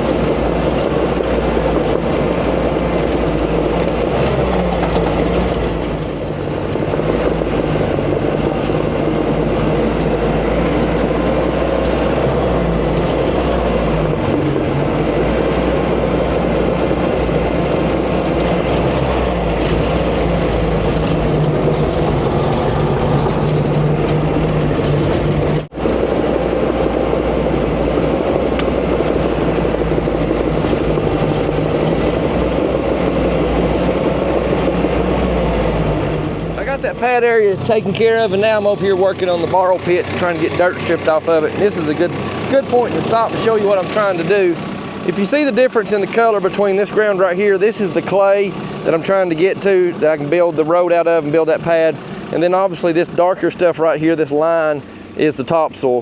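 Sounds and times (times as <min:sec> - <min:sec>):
earthmoving diesel engine under load: 0:00.0 - 0:56.0.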